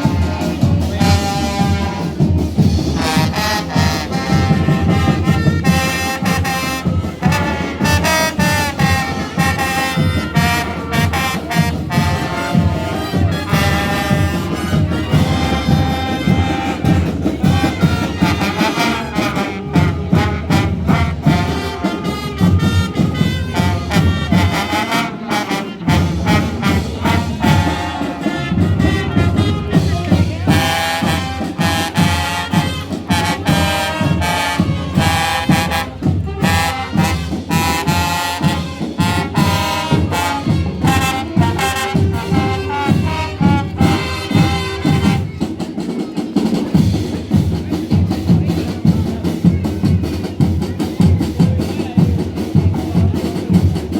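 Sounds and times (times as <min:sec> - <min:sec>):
brass instruments: 0:00.0 - 0:53.9
steady drum beat: 0:00.0 - 0:53.9.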